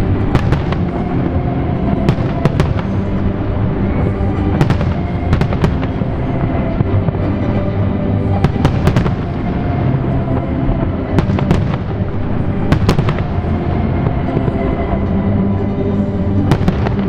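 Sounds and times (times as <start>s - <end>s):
music playing: 0.0s - 17.0s
fireworks bangs: 0.2s - 7.7s, 8.3s - 15.0s, 16.4s - 17.0s.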